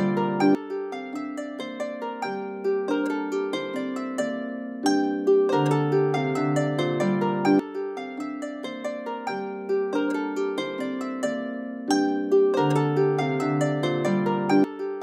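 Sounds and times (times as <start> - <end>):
plucked harp-like music: 0.0 - 15.0.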